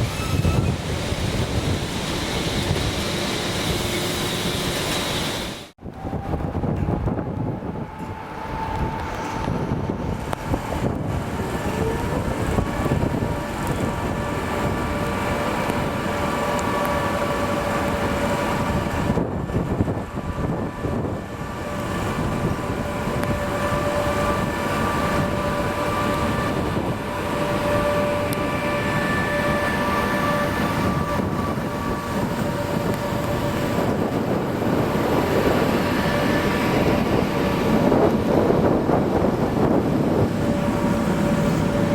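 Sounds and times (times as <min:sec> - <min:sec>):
high whine: 0:00.0 - 0:41.9
train rail rumble: 0:00.0 - 0:41.9.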